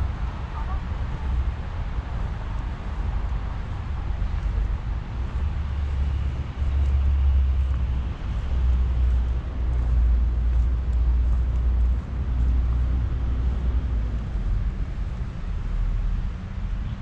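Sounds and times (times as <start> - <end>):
steady low city rumble: 0.0 - 17.0.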